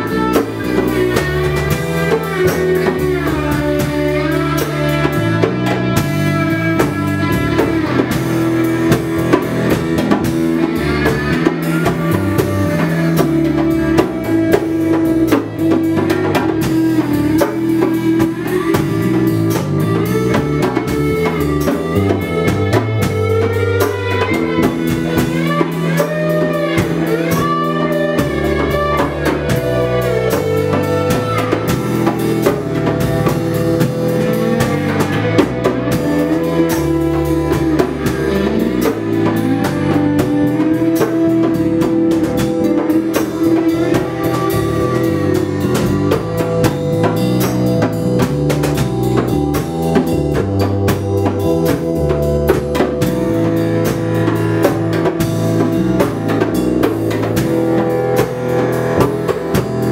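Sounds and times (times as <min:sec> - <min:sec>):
cymbals: 0:00.0 - 0:59.9
electric guitar lead: 0:00.0 - 0:59.9
hand drums: 0:00.0 - 0:59.9.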